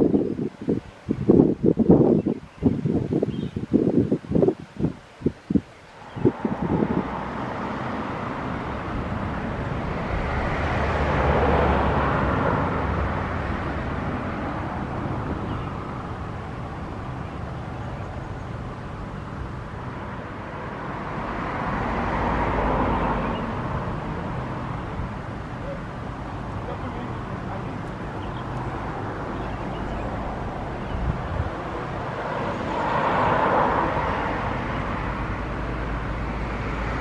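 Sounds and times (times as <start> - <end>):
low traffic rumble: 0.0 - 37.0
vehicles passing by: 5.5 - 37.0.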